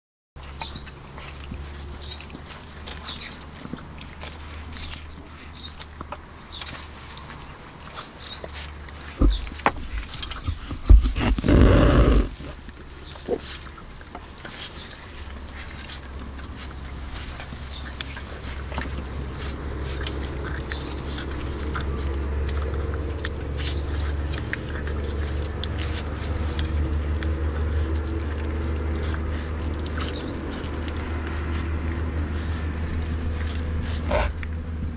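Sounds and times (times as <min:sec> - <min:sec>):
puppies chewing on a bone: 0:00.4 - 0:34.9.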